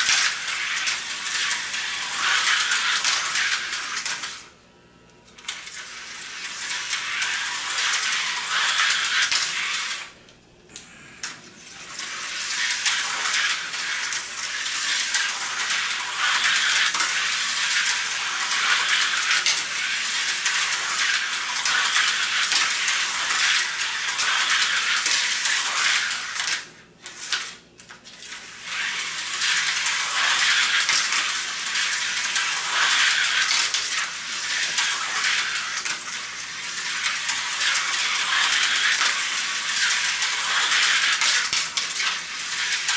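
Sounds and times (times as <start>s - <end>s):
slot cars whirring on track: 0.0s - 4.4s, 5.7s - 10.1s, 11.9s - 26.4s, 28.6s - 41.6s.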